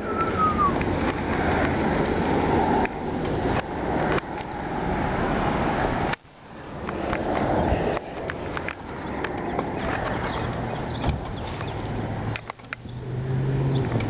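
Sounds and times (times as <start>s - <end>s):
wind on microphone: 0.0s - 12.0s
bicycle tyres rolling on concrete: 0.0s - 13.0s.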